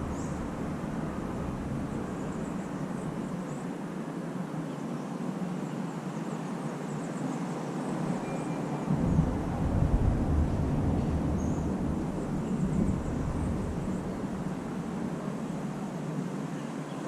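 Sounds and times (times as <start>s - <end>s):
distant city traffic hum: 0.0s - 17.0s.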